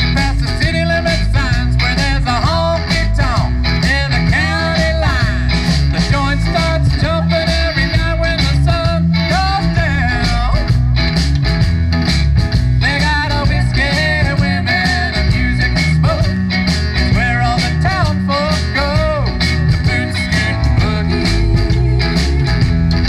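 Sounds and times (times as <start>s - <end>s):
bass and drums beat: 0.0s - 23.0s
bending melodic lead line: 0.0s - 23.0s.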